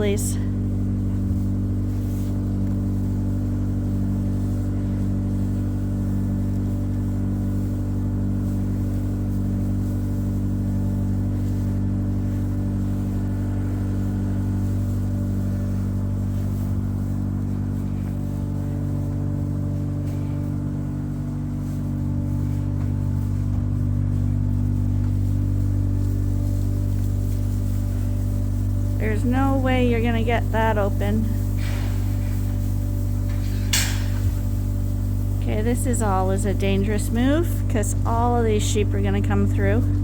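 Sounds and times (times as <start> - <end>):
farm machine engine running: 0.0 - 40.0.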